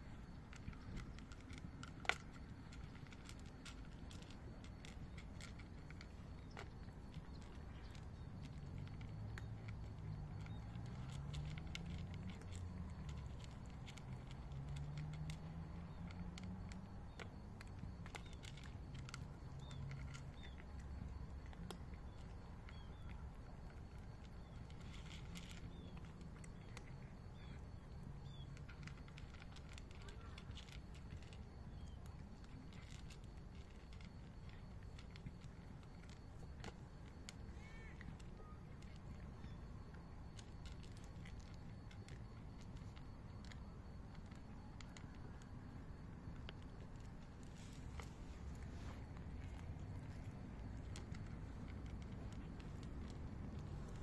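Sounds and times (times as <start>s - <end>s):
cats crunching dry kibble: 0.0s - 54.0s
low background rumble: 0.0s - 54.0s.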